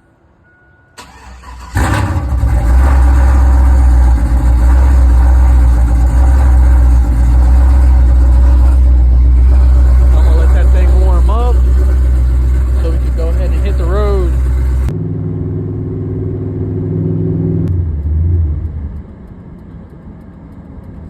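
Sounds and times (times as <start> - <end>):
car engine starting and running: 1.0 - 21.0.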